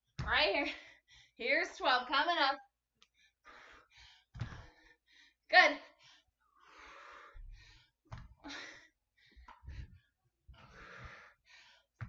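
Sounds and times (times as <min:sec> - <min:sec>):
woman breathing heavily: 0:00.6 - 0:01.4, 0:03.1 - 0:12.0.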